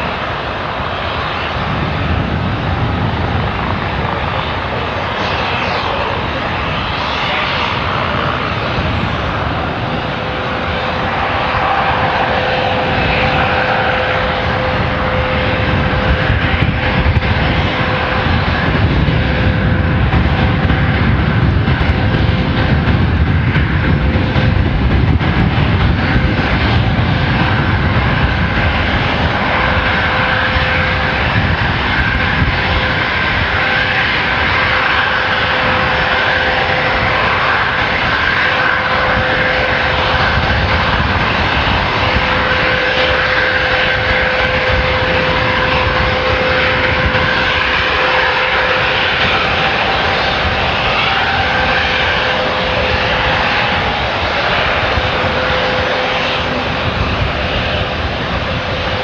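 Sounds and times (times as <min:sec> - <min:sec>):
jet engine whine: 0:00.0 - 0:59.0
low rumble: 0:00.0 - 0:59.0.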